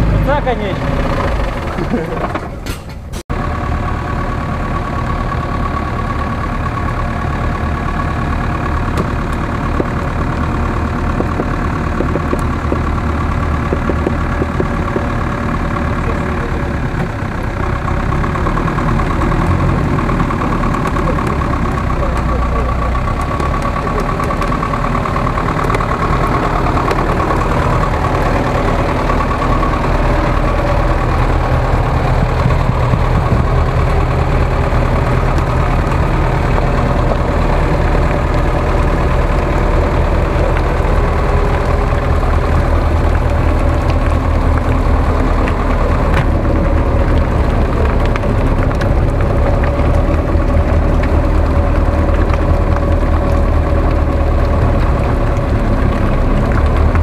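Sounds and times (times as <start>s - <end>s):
truck engine running: 0.0s - 57.0s.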